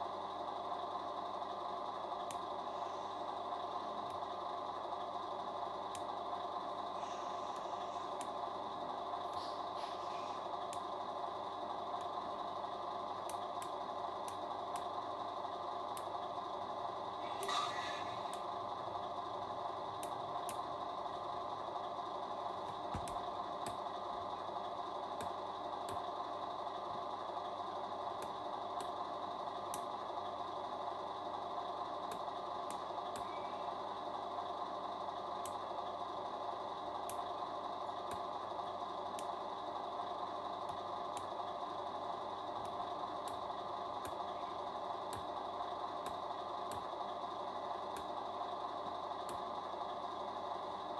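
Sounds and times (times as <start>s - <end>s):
engine idle sound: 0.0s - 50.9s.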